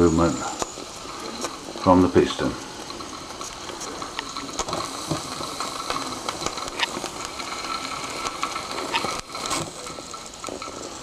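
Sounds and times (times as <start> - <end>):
steam engine hissing: 0.0 - 11.0
small crackles and pops: 0.2 - 11.0.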